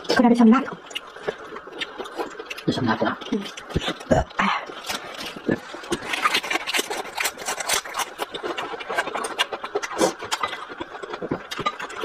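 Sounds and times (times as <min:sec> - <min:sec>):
crunching lettuce: 0:00.7 - 0:12.0.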